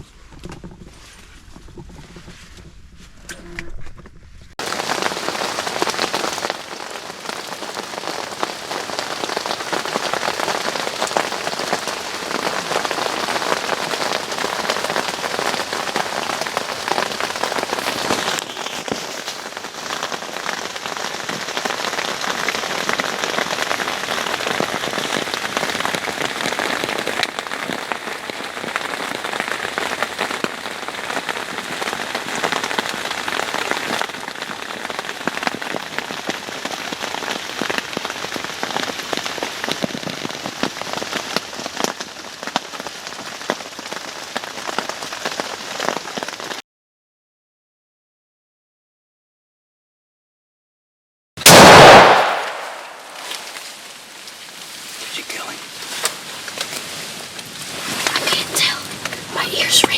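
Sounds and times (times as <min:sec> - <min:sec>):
heavy rain falling: 0:04.6 - 0:46.6, 0:51.4 - 0:59.9.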